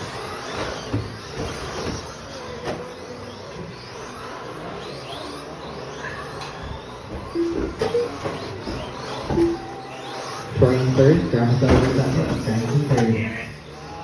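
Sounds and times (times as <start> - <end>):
rc truck motors whining: 0.0 - 14.0
steady background noise: 0.0 - 14.0.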